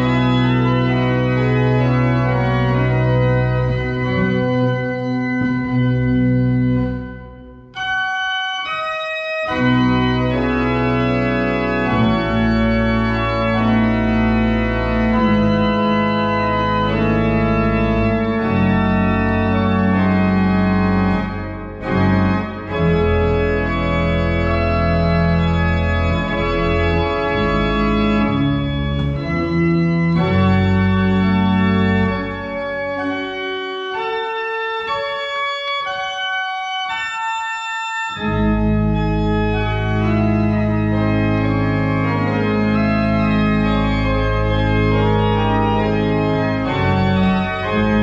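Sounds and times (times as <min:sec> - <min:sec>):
organ chords: 0:00.0 - 0:48.0.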